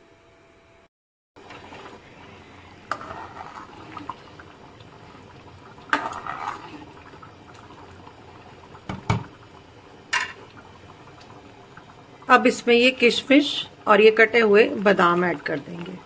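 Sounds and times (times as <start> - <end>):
rice pudding bubbling in a pan: 1.4 - 16.0.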